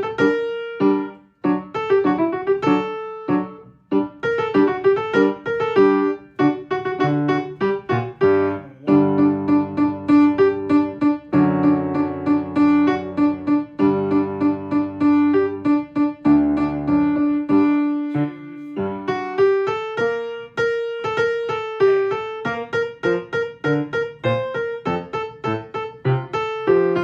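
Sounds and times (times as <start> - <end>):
piano playing slowly: 0.0 - 27.0.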